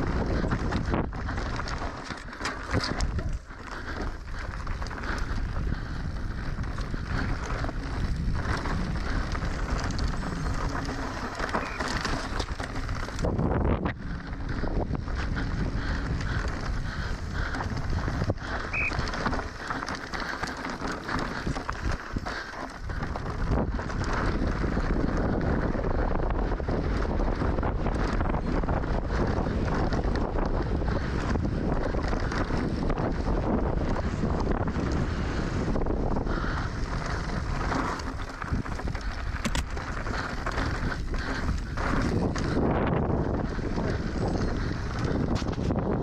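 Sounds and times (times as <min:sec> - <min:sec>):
wind on microphone: 0:00.0 - 0:02.0, 0:02.6 - 0:46.0
bike clattering: 0:00.0 - 0:25.4, 0:27.0 - 0:46.0
bike tyres rolling over dirt: 0:00.0 - 0:46.0.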